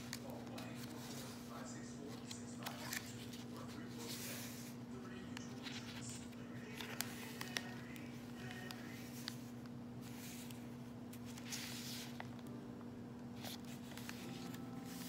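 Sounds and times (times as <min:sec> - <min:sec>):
paper rustling: 0:00.0 - 0:12.5, 0:13.3 - 0:15.0
steady low hum: 0:00.0 - 0:15.0.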